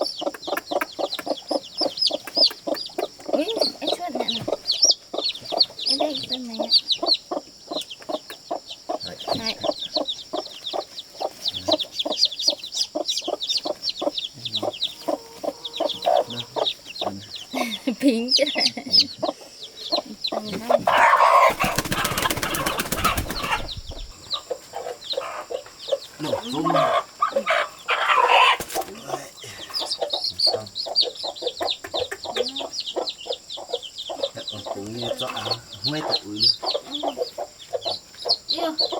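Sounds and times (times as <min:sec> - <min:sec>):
chickens clucking: 0:00.0 - 0:38.9
chicks peeping: 0:00.0 - 0:38.9
high chirping calls: 0:00.0 - 0:38.9.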